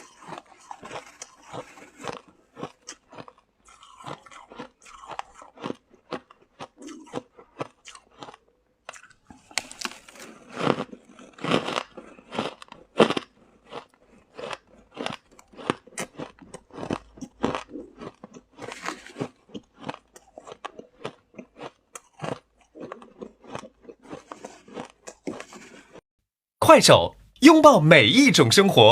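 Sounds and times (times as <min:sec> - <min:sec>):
shaved ice being chewed: 0:00.0 - 0:26.0.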